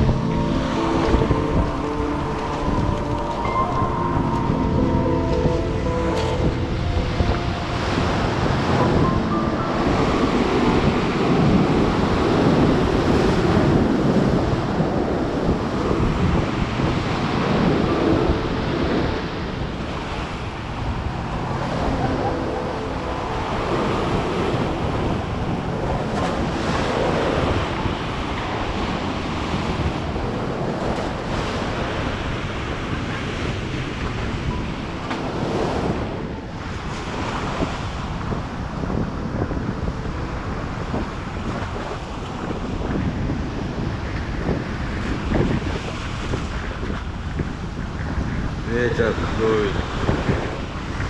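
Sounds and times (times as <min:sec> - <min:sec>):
wind buffeting the microphone: 0:00.0 - 0:51.0.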